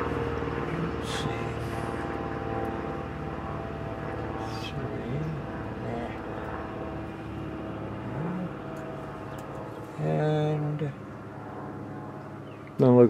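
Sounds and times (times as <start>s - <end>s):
vehicle engine idling: 0.0s - 12.7s.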